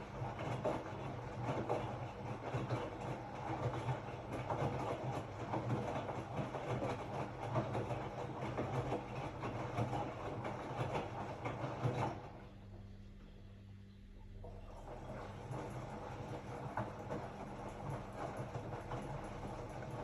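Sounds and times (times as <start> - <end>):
washing machine hum: 0.0 - 20.0.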